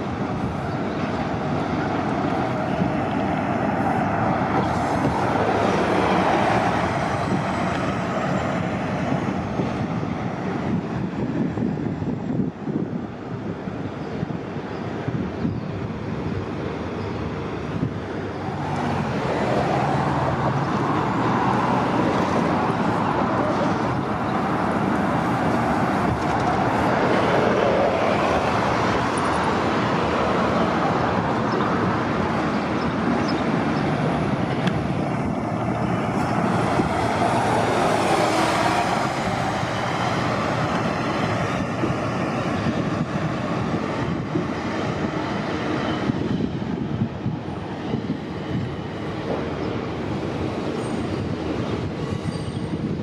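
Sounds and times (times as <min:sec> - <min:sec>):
city buses running: 0:00.0 - 0:53.0
traffic noise: 0:00.0 - 0:53.0.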